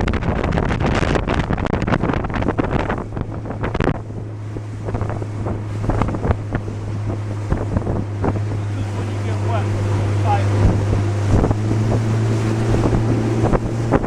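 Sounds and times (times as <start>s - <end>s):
boat motor humming: 0.0s - 14.0s
hull slapping on waves: 0.0s - 14.0s
wind buffeting microphone: 0.0s - 14.0s.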